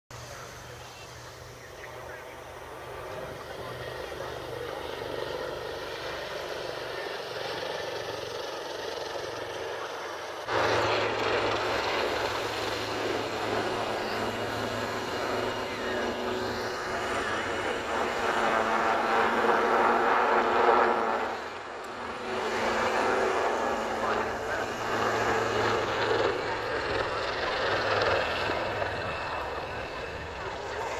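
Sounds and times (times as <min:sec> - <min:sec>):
helicopter flying: 0:00.1 - 0:30.9.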